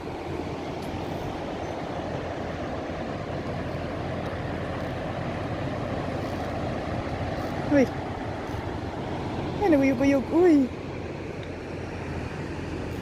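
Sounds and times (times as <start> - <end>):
constant low hum: 0.0 - 13.0
moving vehicle rumble: 0.0 - 13.0.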